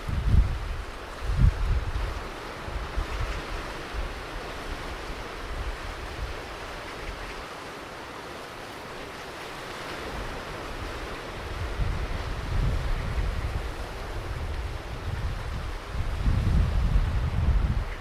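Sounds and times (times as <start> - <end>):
wind buffeting microphone: 0.0 - 7.4, 10.0 - 18.0
waves breaking on beach: 0.0 - 18.0.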